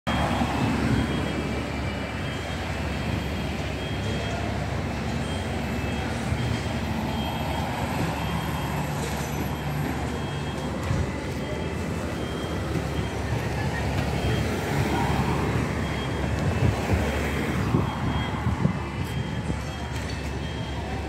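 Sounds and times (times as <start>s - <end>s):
road noise rumble: 0.0s - 21.0s
cars driving: 0.1s - 21.0s.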